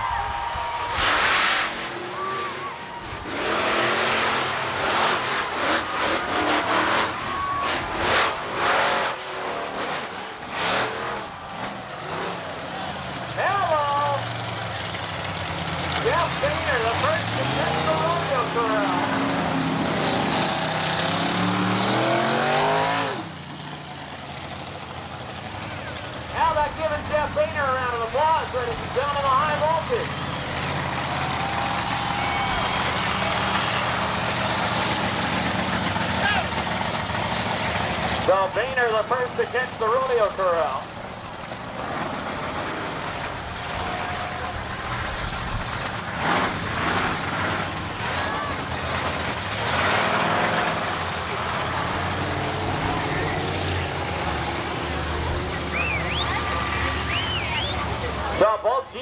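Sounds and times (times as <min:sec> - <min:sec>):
truck engine revving: 0:00.6 - 0:59.0.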